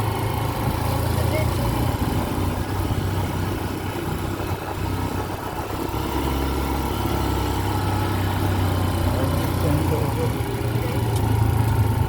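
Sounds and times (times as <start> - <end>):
constant noise: 0.0 - 12.0
vehicle engine humming: 0.0 - 12.0.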